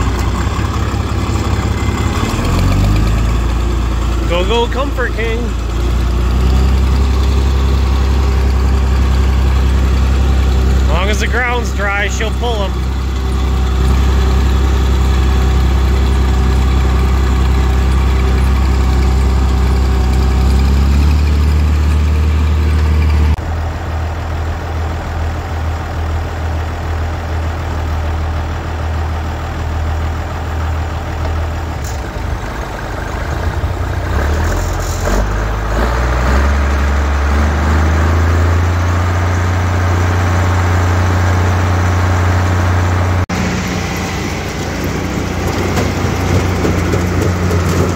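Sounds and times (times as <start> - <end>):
machinery running: 0.0 - 47.9
tractor diesel engine running: 0.0 - 47.9.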